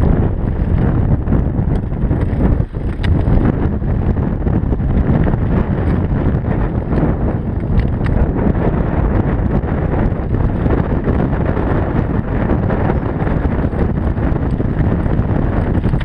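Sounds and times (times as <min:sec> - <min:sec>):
bike rattling over stones: 0:00.0 - 0:16.0
wind buffeting microphone: 0:00.0 - 0:16.0.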